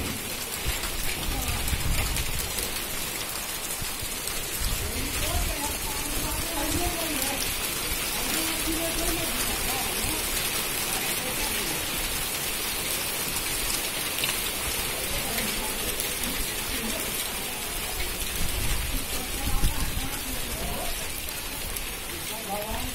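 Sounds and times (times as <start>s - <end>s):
hail hissing on bare earth: 0.0s - 22.9s.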